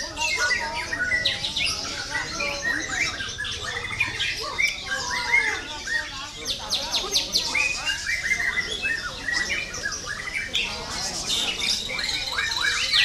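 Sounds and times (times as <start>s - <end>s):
bird chattering calls: 0.0s - 13.0s
bird whistling song: 0.0s - 13.0s.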